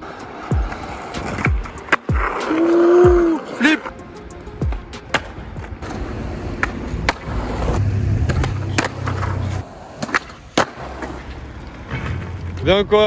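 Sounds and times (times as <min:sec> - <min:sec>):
skateboard clacking on ground: 0:00.0 - 0:13.0
skateboard wheels rolling: 0:00.0 - 0:13.0.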